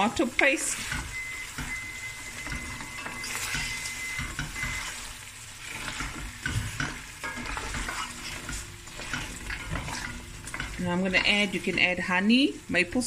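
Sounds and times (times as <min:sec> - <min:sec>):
food sizzling in a pot: 0:00.0 - 0:13.0
wooden spoon scraping: 0:00.6 - 0:12.2.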